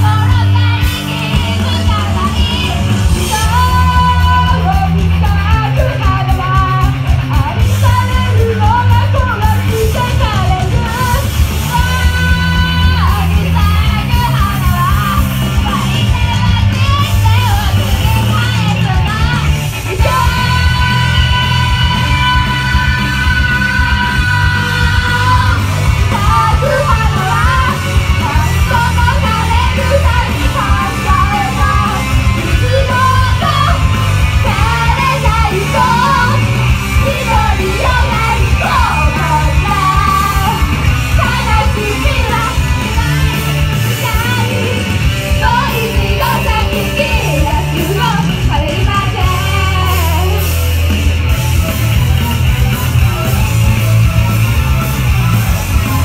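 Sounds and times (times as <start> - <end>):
fans yelling: 0.0 - 56.0
heavy bass beat: 0.0 - 56.0
women singing pop rock: 0.0 - 56.0.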